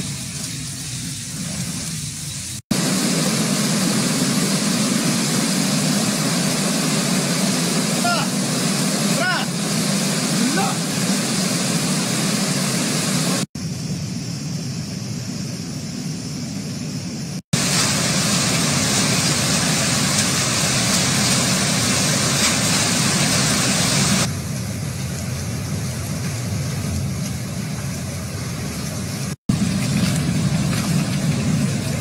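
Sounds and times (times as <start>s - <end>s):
floodwater and rain rushing: 0.0s - 13.5s, 17.5s - 32.0s.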